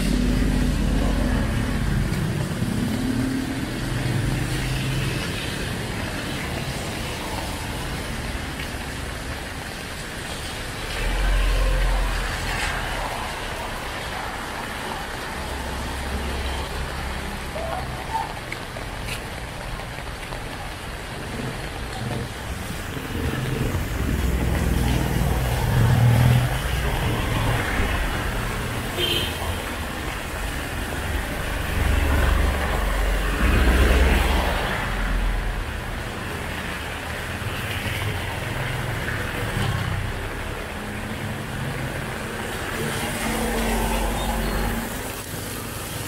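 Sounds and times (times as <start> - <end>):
steady rain: 0.0 - 46.0
vehicles driving on wet road: 0.0 - 46.0.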